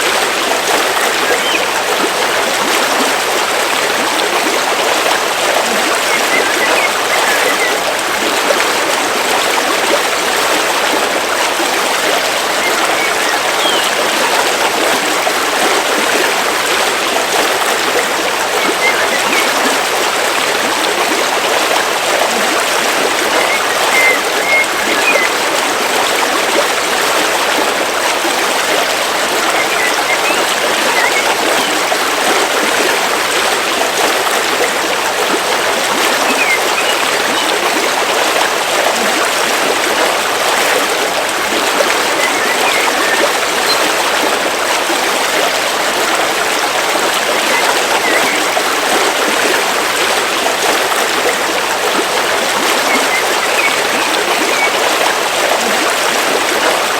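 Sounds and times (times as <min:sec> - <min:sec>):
river water flowing over stones: 0:00.0 - 0:56.9.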